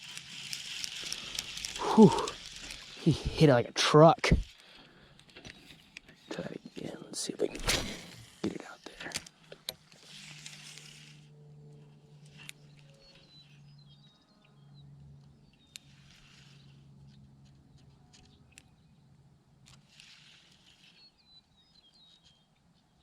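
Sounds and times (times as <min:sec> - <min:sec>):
small birds chirping: 0:00.0 - 0:03.6, 0:04.5 - 0:23.0.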